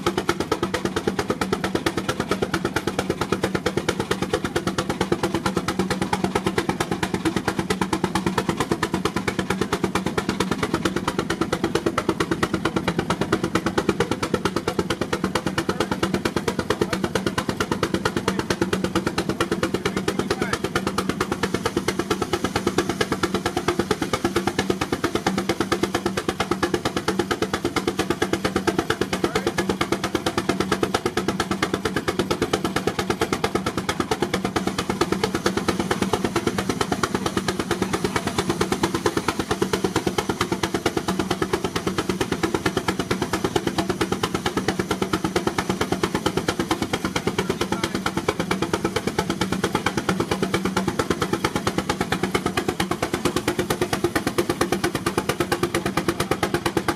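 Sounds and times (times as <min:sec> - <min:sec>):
machinery running noise: 0:00.0 - 0:56.9
steam engine exhaust beats: 0:00.0 - 0:56.9.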